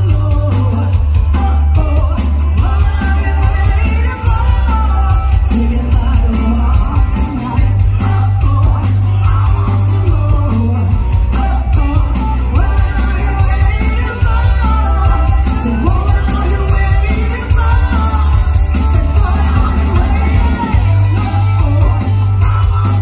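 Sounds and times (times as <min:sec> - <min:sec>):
live rock band playing: 0:00.0 - 0:23.0
woman singing: 0:00.0 - 0:23.0.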